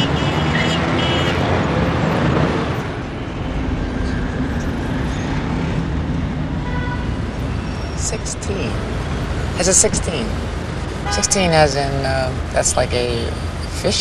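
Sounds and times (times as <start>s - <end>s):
car road noise: 0.0s - 14.0s.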